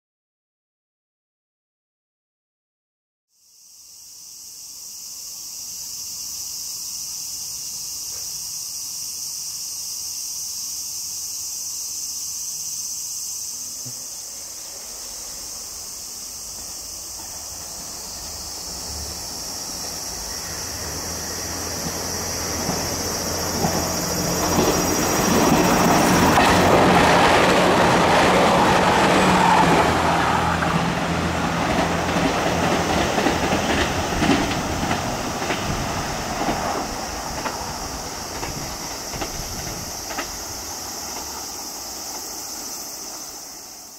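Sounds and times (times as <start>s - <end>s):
insects shrilling: 3.4s - 30.9s, 32.8s - 43.9s
rail noise: 3.5s - 43.9s
diesel railcar passing: 3.6s - 43.9s.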